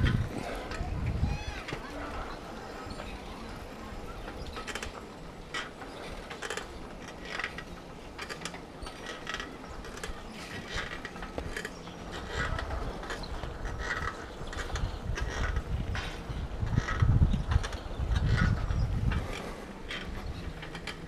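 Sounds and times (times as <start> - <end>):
bicycle rattling and clicking: 4.0 - 21.0.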